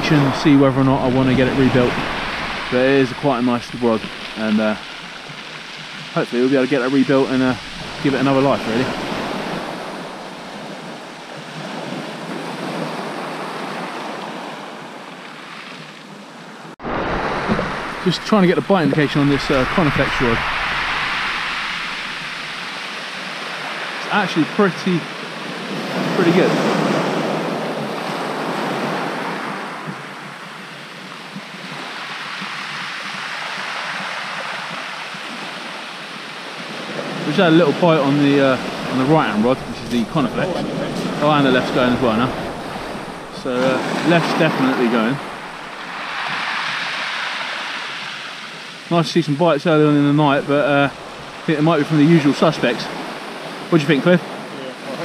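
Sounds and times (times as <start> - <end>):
sea waves washing onto beach: 0.0 - 55.0.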